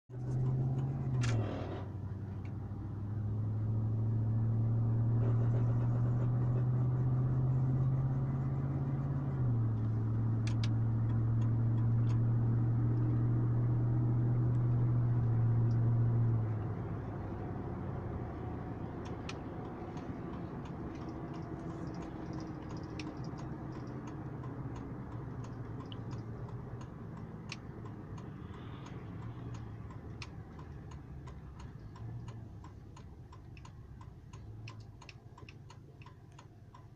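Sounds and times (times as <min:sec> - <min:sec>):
faint rumble: 0:00.1 - 0:36.9
steady low hum: 0:00.2 - 0:36.9.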